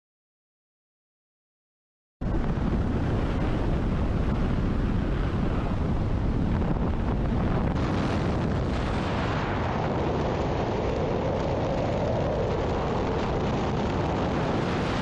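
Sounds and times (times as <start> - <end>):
wind buffeting microphone: 2.2 - 15.0.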